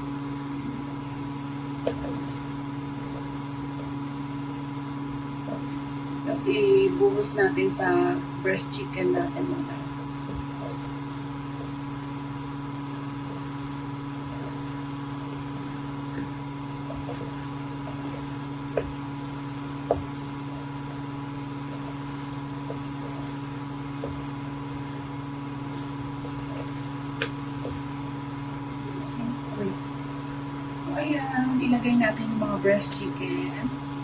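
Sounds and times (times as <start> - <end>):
steady machine hum: 0.0 - 34.0.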